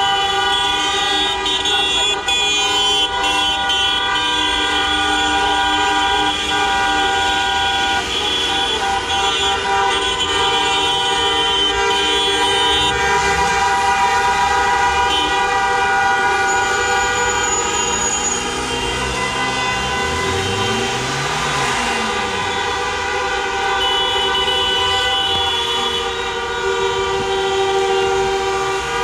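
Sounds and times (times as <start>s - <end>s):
car horns honking: 0.0s - 29.0s.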